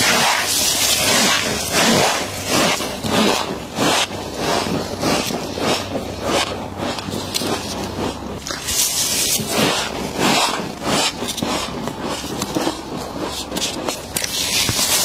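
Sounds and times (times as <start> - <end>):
frost scraping and crunching: 0.0 - 15.0.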